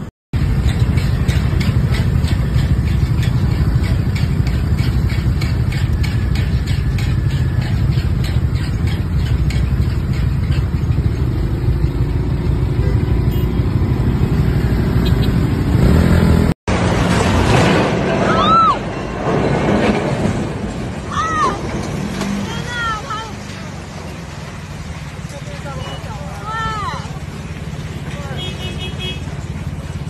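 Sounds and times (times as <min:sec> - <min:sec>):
street noise: 0:00.0 - 0:30.0
traffic engines rumbling: 0:00.0 - 0:30.0.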